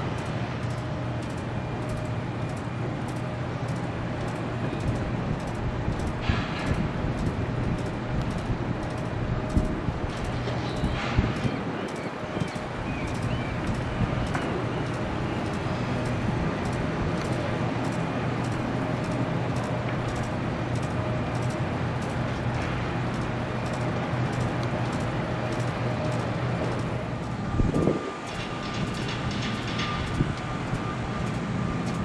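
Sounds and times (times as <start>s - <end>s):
faint regular ticking: 0.0s - 32.0s
heavy machinery drone: 0.0s - 32.0s.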